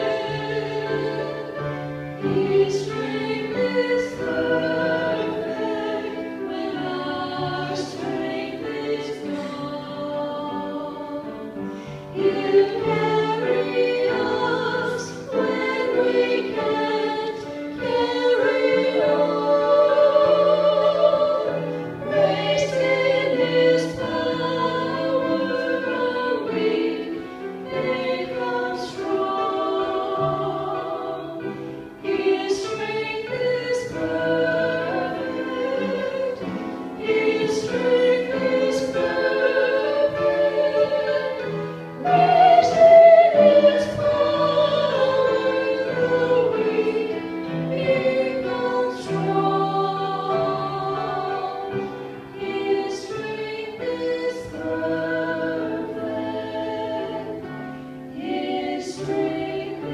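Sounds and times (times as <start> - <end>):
piano accompaniment: 0.0 - 59.9
women singing together: 0.0 - 59.9.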